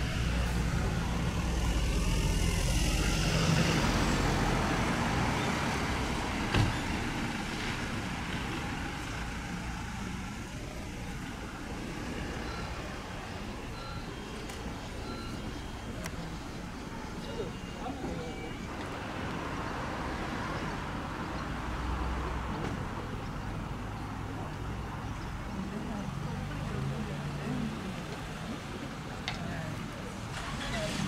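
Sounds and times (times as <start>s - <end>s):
bus engine rumbling: 0.0s - 31.0s
traffic noise: 0.0s - 31.0s.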